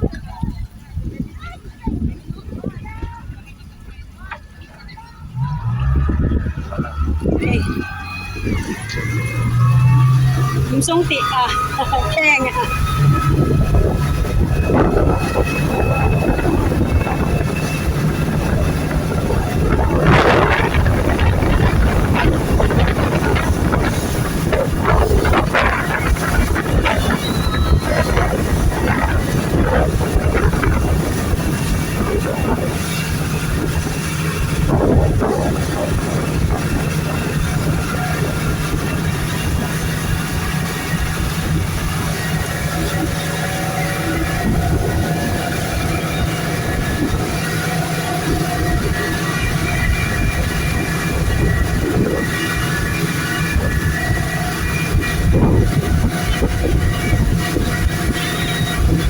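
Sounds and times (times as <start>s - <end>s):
boat running fast over water: 0.0s - 59.0s
motorboat engine humming: 0.0s - 59.0s
wind buffeting microphone: 0.0s - 59.0s.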